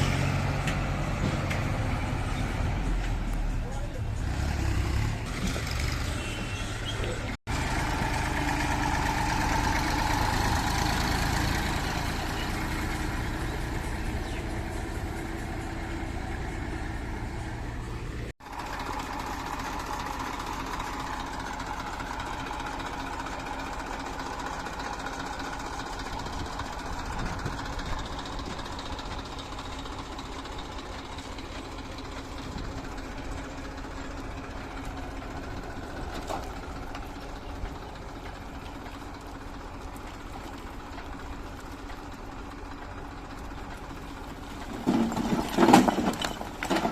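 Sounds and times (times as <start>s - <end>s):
diesel machinery engine running: 0.0s - 46.9s.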